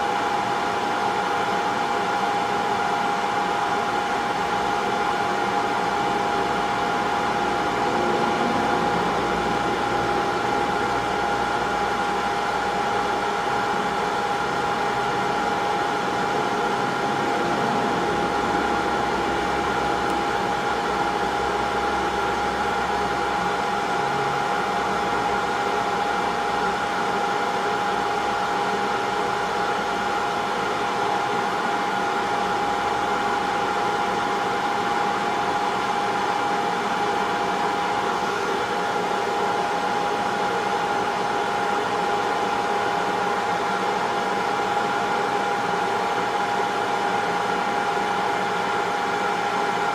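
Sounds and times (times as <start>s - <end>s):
hot air station blowing whine: 0.0s - 49.9s.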